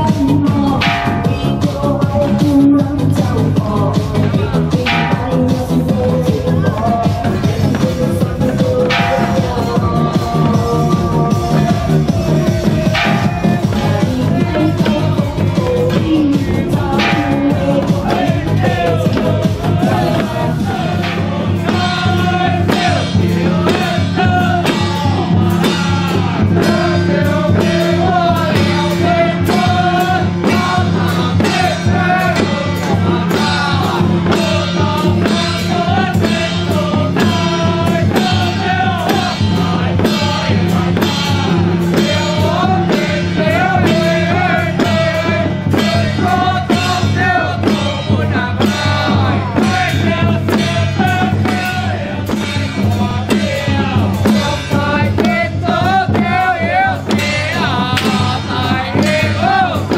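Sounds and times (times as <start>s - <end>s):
song with singing over a beat: 0.0s - 59.9s.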